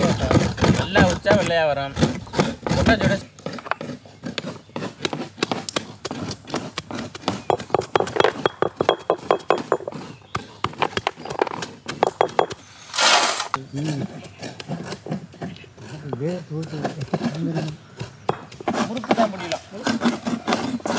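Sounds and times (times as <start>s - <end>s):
stone roller knocking on jaggery: 0.0s - 13.2s, 13.9s - 20.9s.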